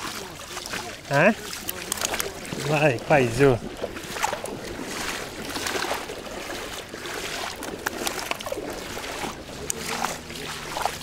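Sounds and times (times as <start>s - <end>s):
footsteps splashing in water: 0.0s - 11.0s
water streaming from net: 0.0s - 11.0s.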